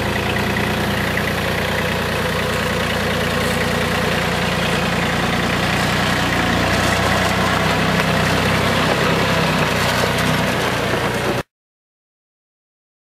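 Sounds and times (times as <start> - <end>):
tractor engine running: 0.0 - 11.5.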